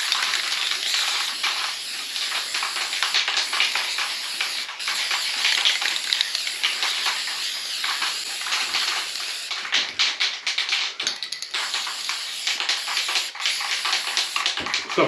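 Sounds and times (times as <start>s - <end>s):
aerosol can spraying: 0.0s - 15.0s.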